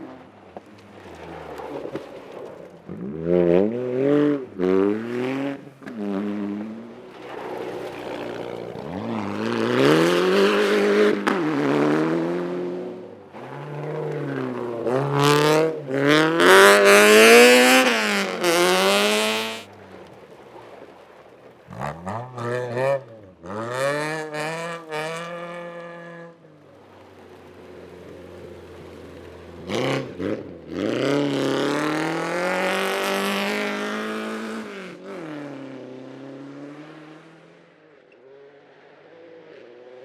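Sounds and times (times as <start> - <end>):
rally car engine revving: 0.0 - 40.0.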